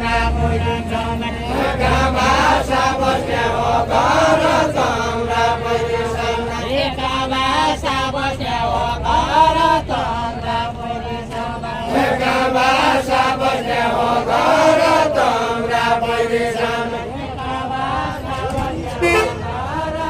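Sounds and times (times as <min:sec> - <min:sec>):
voices singing folk song: 0:00.0 - 0:20.0.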